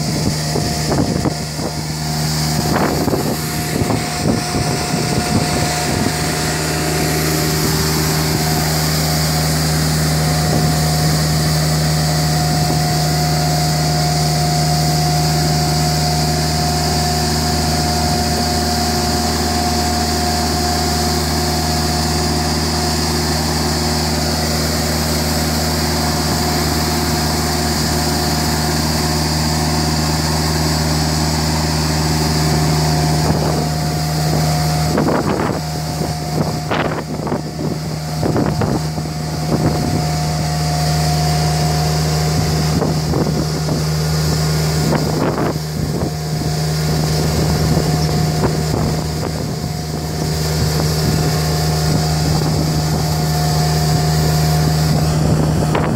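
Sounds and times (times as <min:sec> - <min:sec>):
sweeper machine running: 0:00.0 - 0:55.9.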